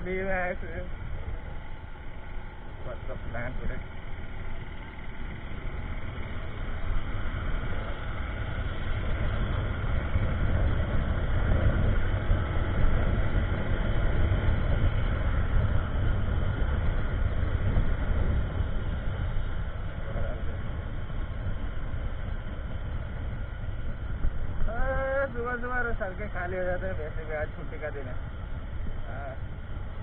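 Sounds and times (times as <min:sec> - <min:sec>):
motorcycle engine rumble: 0:00.0 - 0:30.0
wind noise on microphone: 0:05.3 - 0:30.0.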